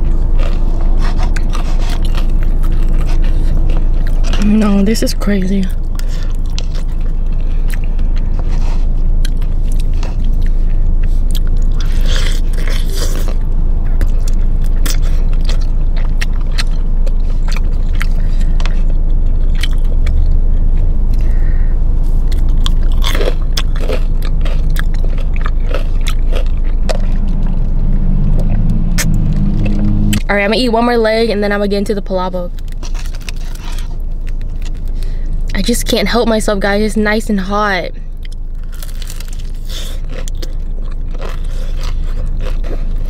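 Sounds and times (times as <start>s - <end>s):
crunchy chewing of fried chicken: 0.0s - 30.2s, 32.5s - 35.5s, 38.0s - 43.0s
steady low hum: 0.0s - 43.0s.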